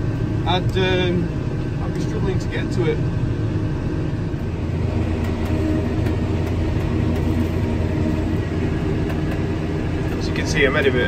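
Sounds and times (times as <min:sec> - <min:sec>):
tractor engine drone: 0:00.0 - 0:11.0.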